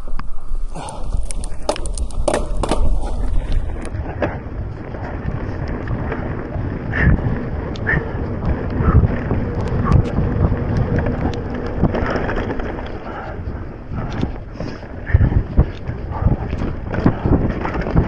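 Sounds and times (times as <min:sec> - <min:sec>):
mountain bike tyre noise and rattle: 0:00.0 - 0:18.0
wind rushing over microphone: 0:00.0 - 0:18.0.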